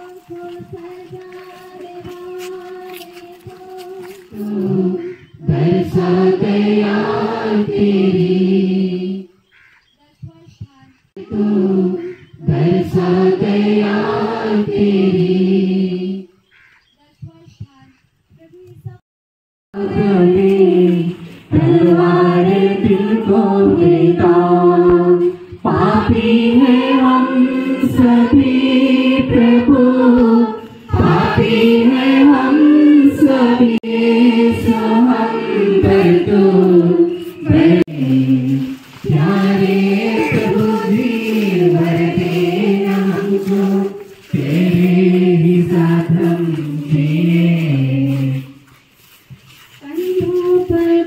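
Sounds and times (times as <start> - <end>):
group singing a hymn: 0.0 - 9.4, 11.2 - 16.3, 19.8 - 49.2.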